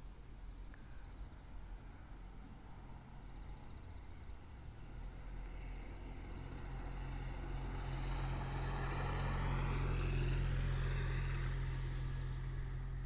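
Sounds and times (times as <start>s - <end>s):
passing engine whine: 1.0s - 13.0s.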